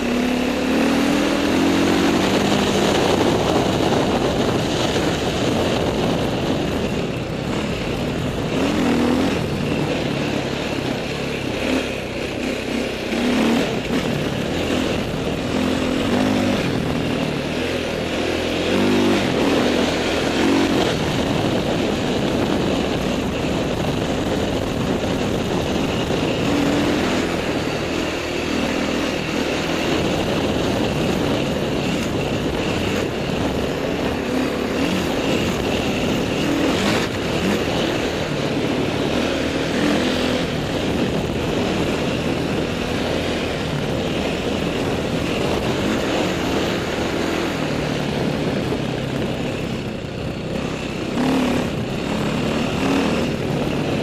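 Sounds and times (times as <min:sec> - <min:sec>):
dirt bike engine revving: 0:00.0 - 0:54.0
wind noise: 0:00.0 - 0:54.0.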